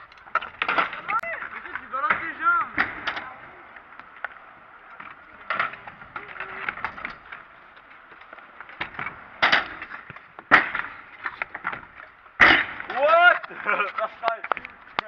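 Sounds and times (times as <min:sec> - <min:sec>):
scooter deck clacking and banging: 0:00.0 - 0:15.0
scooter wheels rolling on concrete: 0:00.0 - 0:15.0.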